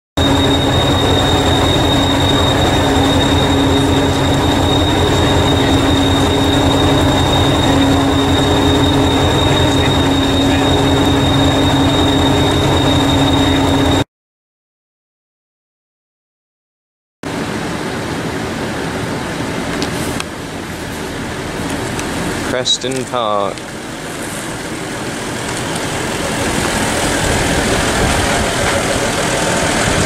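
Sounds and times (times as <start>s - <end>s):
diesel engine throb idling: 0.2s - 14.0s, 19.0s - 30.0s
high whine: 0.2s - 14.0s, 17.2s - 30.0s.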